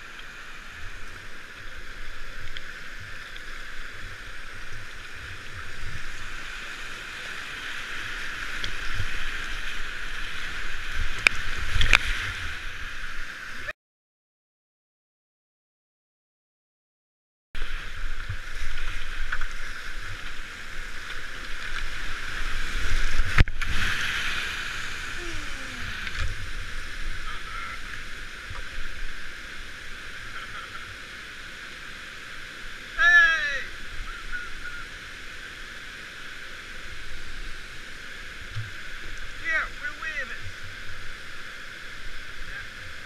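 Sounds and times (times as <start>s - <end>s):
river water rushing: 0.0s - 13.7s, 17.6s - 43.0s.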